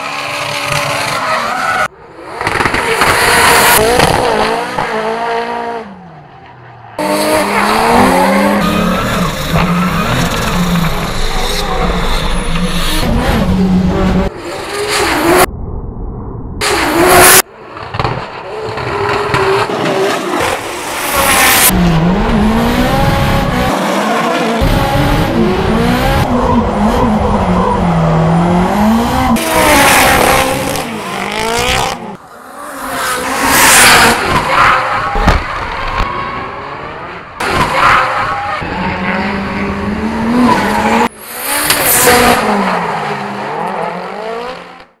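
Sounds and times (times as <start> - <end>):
car engines revving: 0.0 - 15.5, 16.6 - 45.0.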